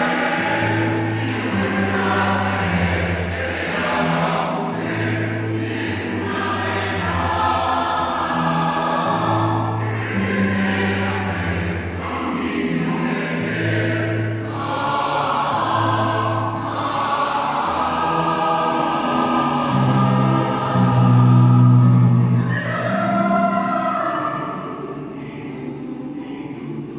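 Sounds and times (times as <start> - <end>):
choir singing: 0.0 - 26.9.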